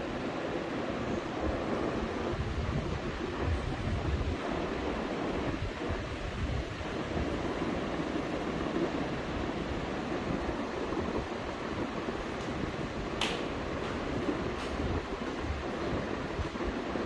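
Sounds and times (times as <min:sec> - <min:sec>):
wind buffeting microphone: 0:00.3 - 0:17.0.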